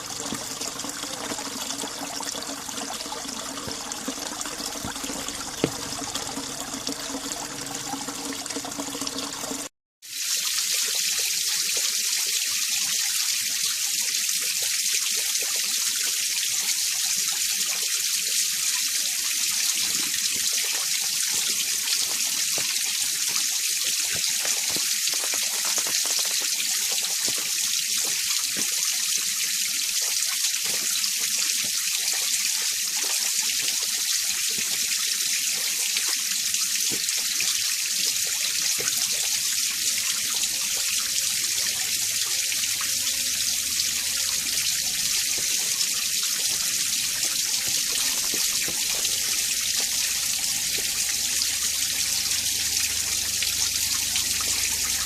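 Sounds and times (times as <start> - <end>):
stream running over rocks: 0.0 - 9.7, 14.2 - 55.0.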